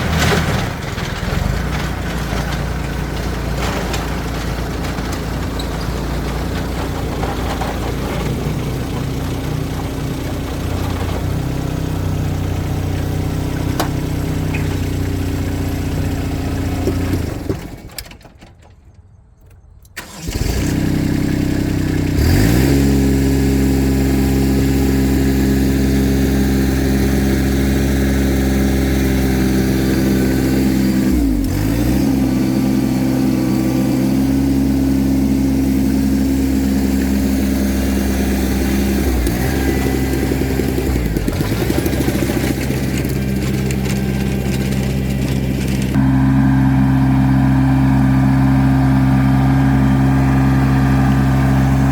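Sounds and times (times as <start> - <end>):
tractor engine running: 0.0 - 18.8, 19.5 - 51.9.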